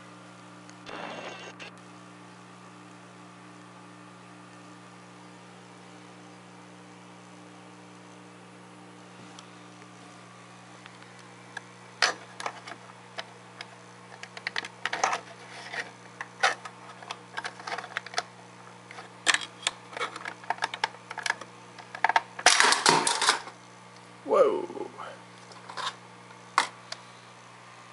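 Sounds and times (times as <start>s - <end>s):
steady hum: 0.0s - 27.9s.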